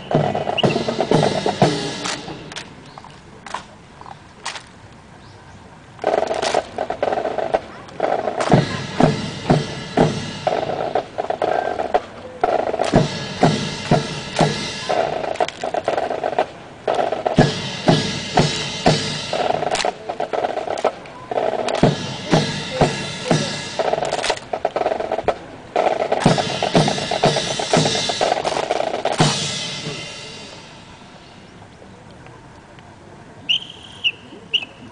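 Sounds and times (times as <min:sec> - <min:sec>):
marching snare and bass drums: 0:00.0 - 0:03.7, 0:06.0 - 0:31.6.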